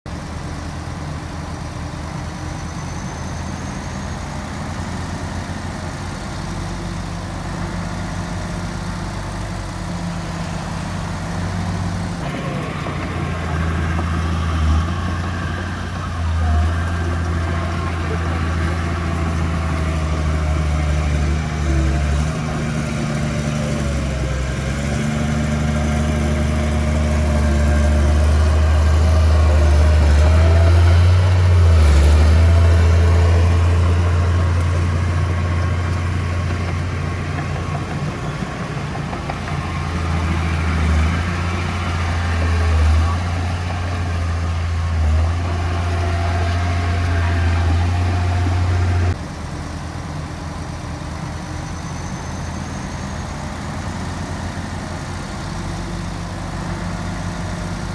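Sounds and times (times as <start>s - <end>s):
diesel engine of heavy machinery: 0.1s - 57.9s.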